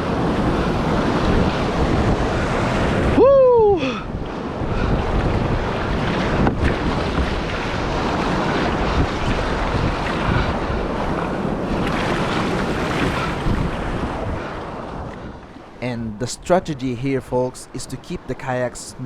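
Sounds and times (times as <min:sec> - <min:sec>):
wind buffeting microphone: 0:00.0 - 0:18.3
surf breaking and rushing: 0:00.0 - 0:19.0.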